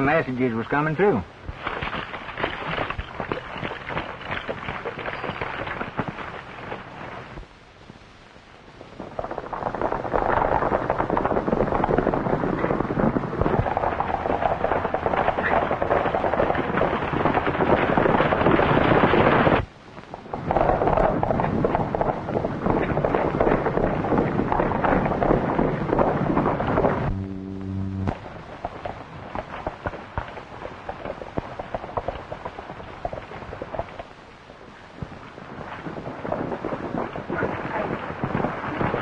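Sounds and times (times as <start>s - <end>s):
horses galloping hoofbeats: 0.0s - 7.5s, 9.0s - 27.3s, 28.1s - 39.0s.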